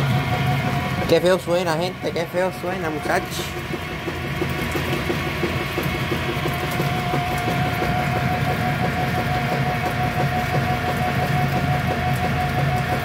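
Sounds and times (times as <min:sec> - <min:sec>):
washing machine agitating: 0:00.0 - 0:13.0
washing machine whine: 0:00.0 - 0:13.0.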